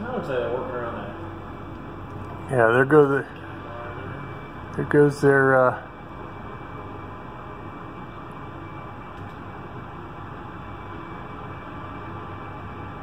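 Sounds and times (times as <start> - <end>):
distant helicopter hovering: 0.0 - 13.0.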